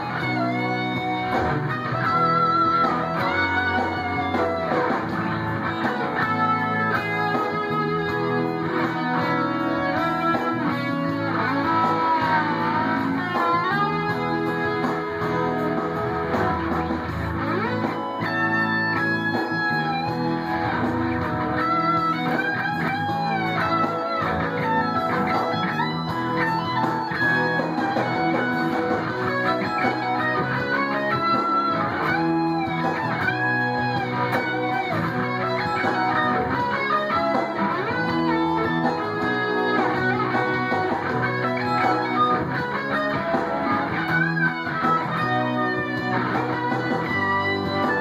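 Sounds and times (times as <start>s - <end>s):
distorted electric guitar lead: 0.0s - 48.0s.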